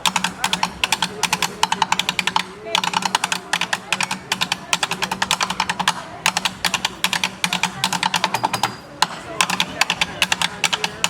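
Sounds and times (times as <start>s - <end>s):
rapid clicking taps: 0.0s - 11.0s.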